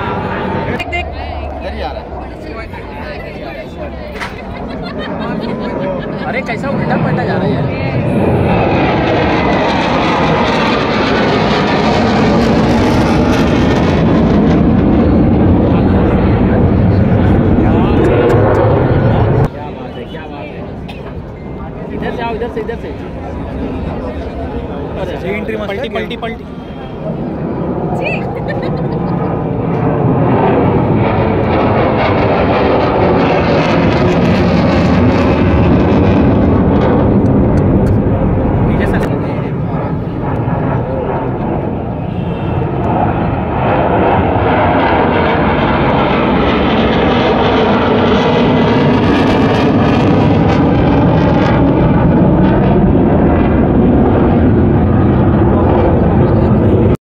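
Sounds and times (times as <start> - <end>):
fighter jet flying overhead: 0.0 - 57.0.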